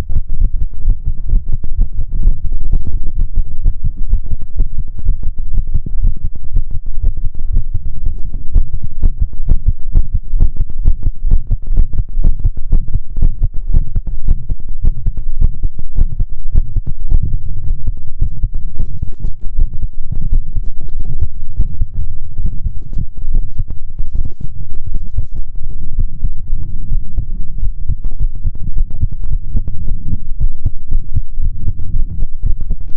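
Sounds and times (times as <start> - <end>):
continuous low rumble: 0.0 - 32.9
muffled heartbeat thumps: 0.0 - 32.9.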